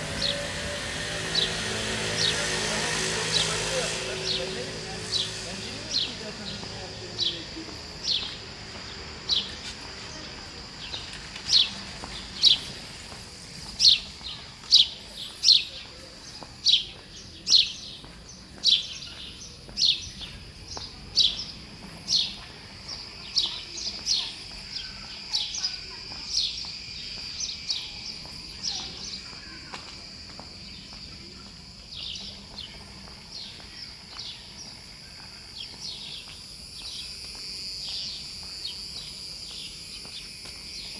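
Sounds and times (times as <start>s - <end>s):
steady high-pitched hum: 0.0s - 40.9s.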